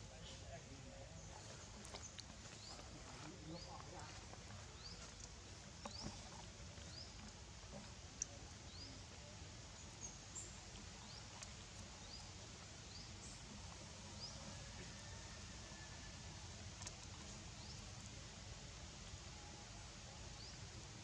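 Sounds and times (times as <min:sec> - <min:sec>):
low background hiss: 0:00.0 - 0:21.0.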